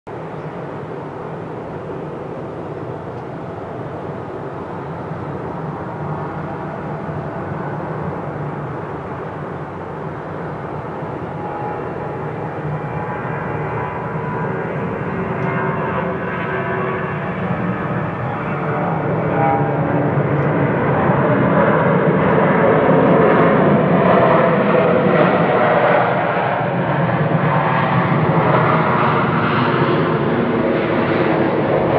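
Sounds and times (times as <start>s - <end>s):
jet engines rushing: 0.1s - 31.9s.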